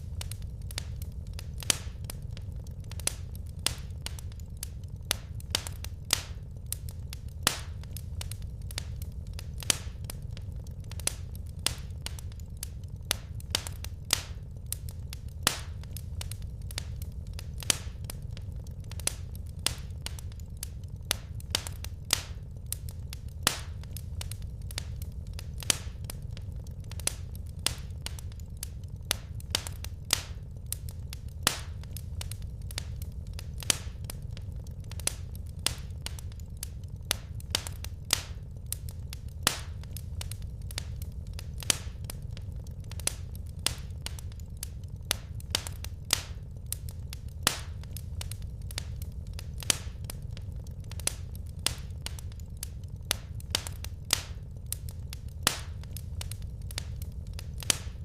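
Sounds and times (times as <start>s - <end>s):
low rumble of burning logs: 0.0s - 58.0s
wood fire crackling: 0.0s - 58.0s.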